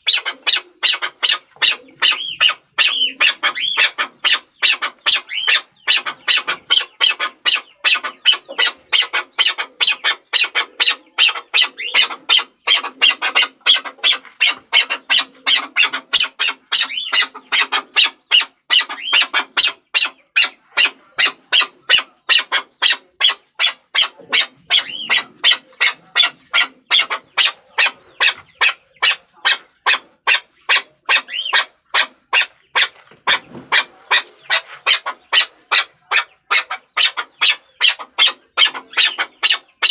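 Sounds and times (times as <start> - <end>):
partridge calling sharp notes: 0.0 - 39.9.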